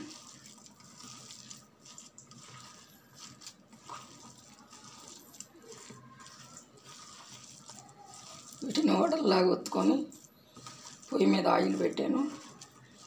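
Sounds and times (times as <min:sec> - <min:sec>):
hand kneading wet mixture: 0:00.0 - 0:13.0.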